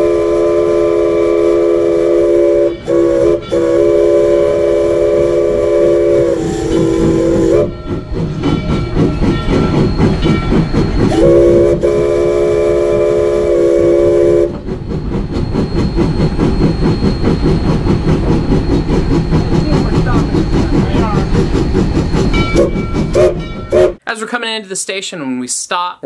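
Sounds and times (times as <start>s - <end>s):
chime steam whistle blasts: 0.0s - 24.0s
steam locomotive running: 0.0s - 24.1s.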